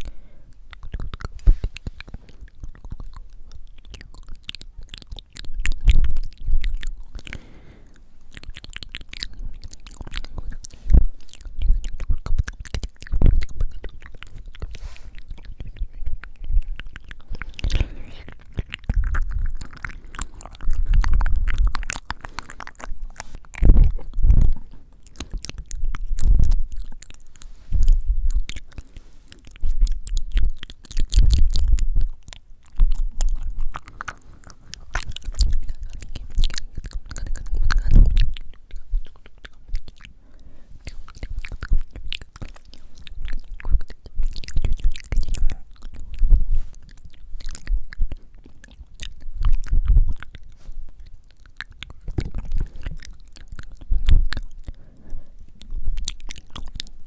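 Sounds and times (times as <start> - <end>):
lip and tongue clicks: 0.0 - 57.0.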